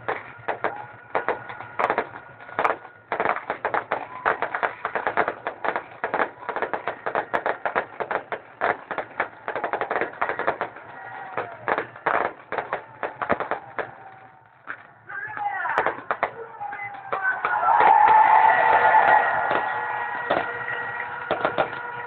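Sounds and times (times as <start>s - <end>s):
fireworks cracking and popping: 0.0s - 22.0s.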